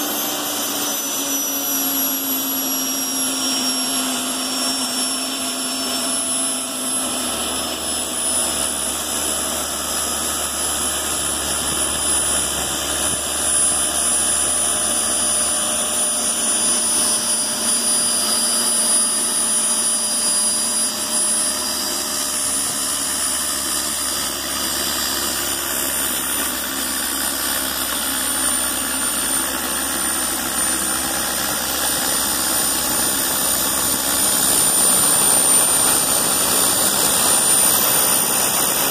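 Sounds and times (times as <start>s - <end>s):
high-pitched turbine whine: 0.0s - 38.9s.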